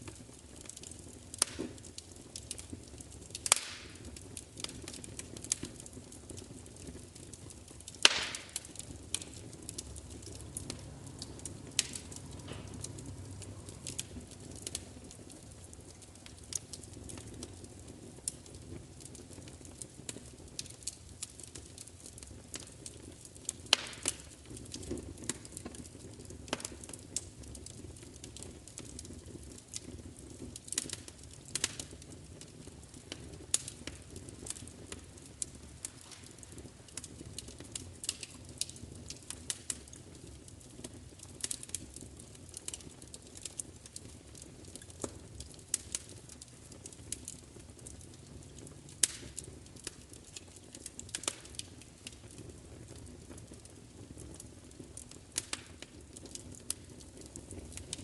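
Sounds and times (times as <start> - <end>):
fire crackling and popping: 0.0 - 58.0
low rumble of burning fire: 0.0 - 58.0.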